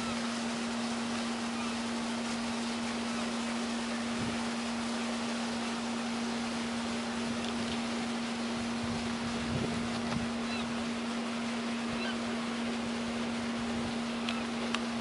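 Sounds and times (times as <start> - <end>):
boat engine humming: 0.0 - 15.0
water rushing: 0.0 - 15.0.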